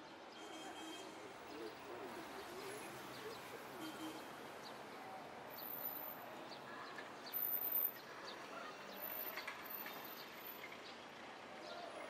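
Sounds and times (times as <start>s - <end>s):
city street ambience: 0.0s - 12.0s.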